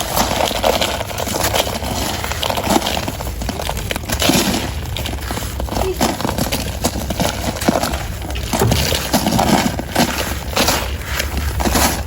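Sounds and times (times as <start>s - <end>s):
hands crumbling dried cement: 0.0s - 12.0s.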